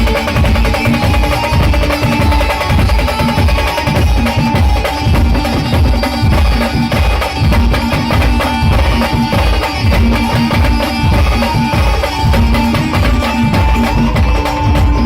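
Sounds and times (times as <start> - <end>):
loud drum beat: 0.0 - 15.0.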